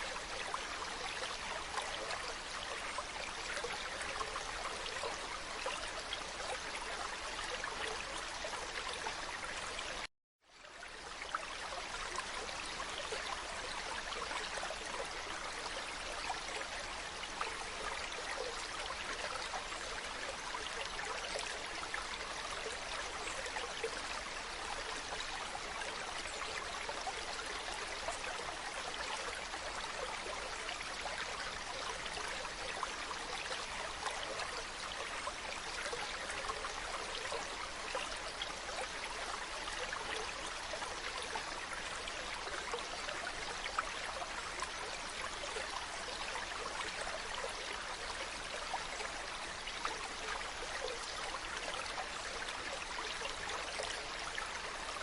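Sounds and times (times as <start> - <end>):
stream water babbling: 0.0 - 55.0.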